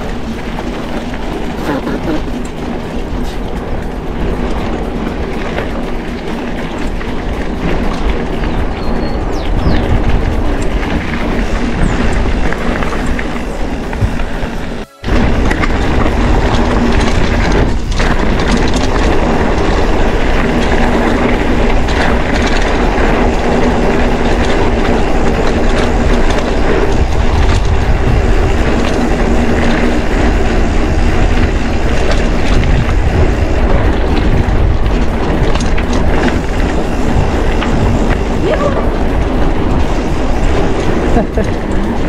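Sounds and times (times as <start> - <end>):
bike rattling: 0.0 - 42.0
bike tyres rumbling on dirt: 0.0 - 42.0
wind rushing over microphone: 0.0 - 42.0.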